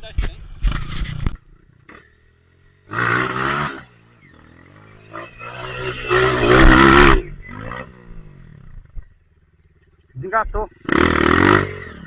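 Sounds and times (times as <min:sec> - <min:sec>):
dirt bike engine revving: 0:00.4 - 0:12.0.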